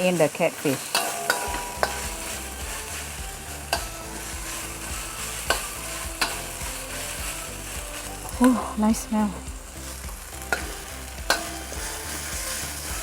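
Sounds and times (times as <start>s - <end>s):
spice paste sizzling in oil: 0.0s - 13.0s.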